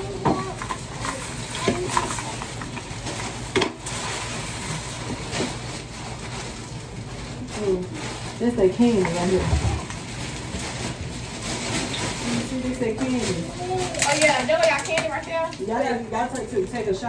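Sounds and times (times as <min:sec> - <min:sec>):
plastic bag rustling: 0:00.0 - 0:17.0.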